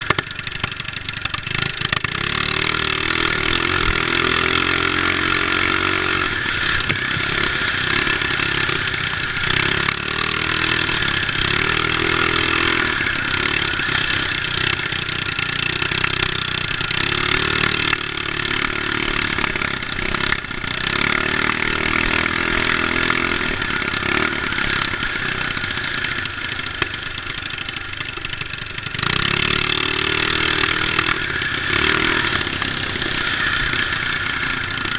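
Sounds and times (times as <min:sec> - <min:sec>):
mini bike engine revving: 0:00.0 - 0:34.9.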